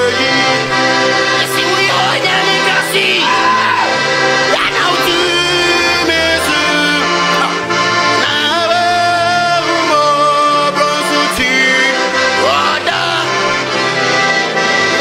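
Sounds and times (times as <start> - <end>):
accordion playing a worship tune: 0.0 - 15.0.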